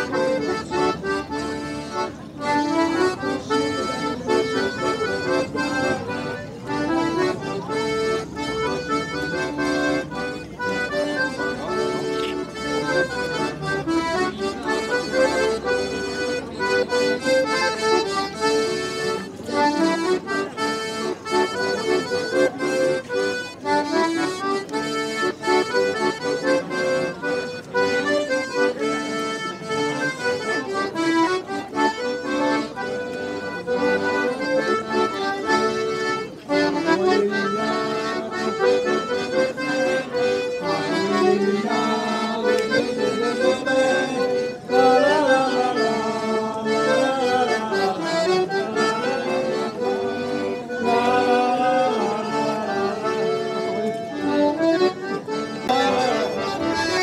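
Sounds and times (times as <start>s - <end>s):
accordion folk dance tune: 0.0s - 57.0s.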